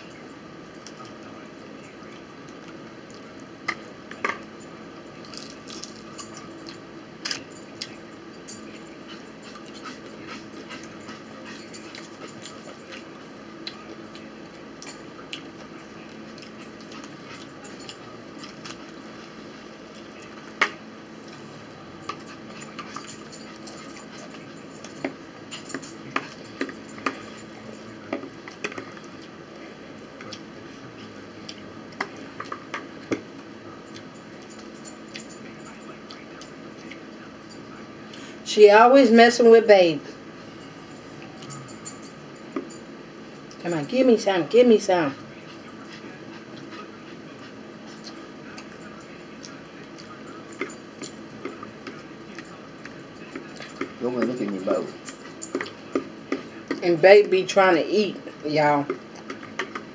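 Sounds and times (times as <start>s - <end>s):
low room hum: 0.0s - 59.9s.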